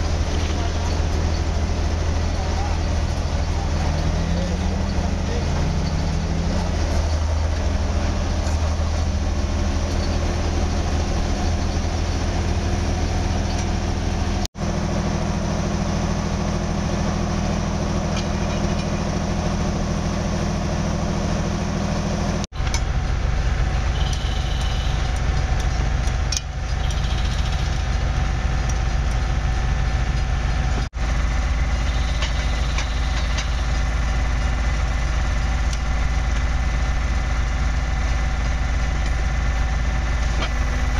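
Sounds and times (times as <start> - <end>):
diesel engines humming: 0.0 - 40.9.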